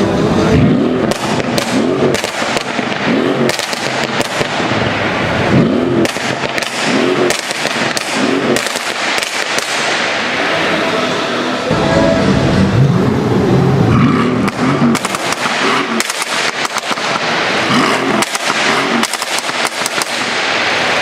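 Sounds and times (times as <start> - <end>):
car engine revving: 0.0 - 21.0
exhaust crackles and pops: 0.4 - 10.5, 13.8 - 21.0.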